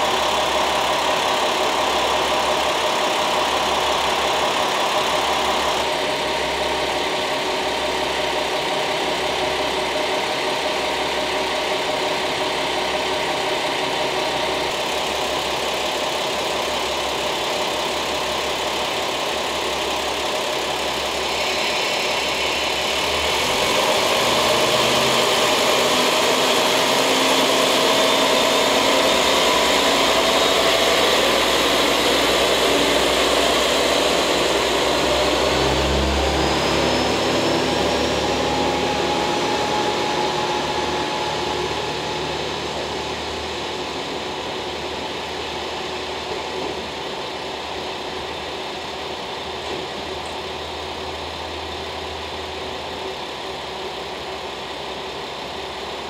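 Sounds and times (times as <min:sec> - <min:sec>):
diesel train pulling away: 0:00.0 - 0:56.0.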